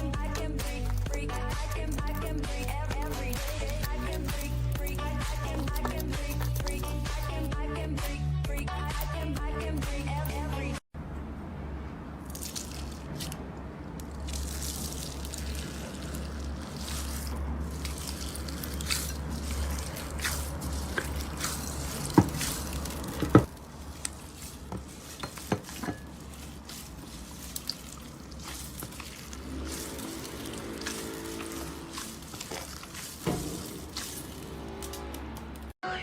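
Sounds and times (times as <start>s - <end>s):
slime squishing: 0.0s - 7.6s, 12.2s - 35.7s.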